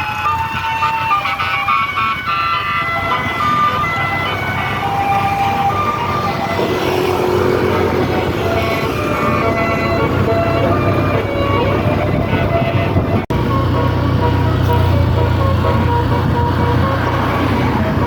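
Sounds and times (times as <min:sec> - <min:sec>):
bus engine rumble: 0:00.0 - 0:18.0
bus horn playing a melody: 0:00.0 - 0:18.0.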